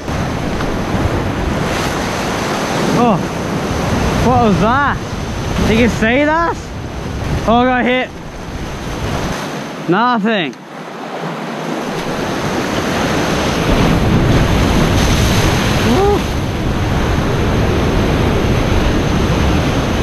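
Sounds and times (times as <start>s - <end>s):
wind buffeting microphone: 0.0s - 9.7s, 11.1s - 20.0s
surf breaking over rocks: 0.0s - 20.0s.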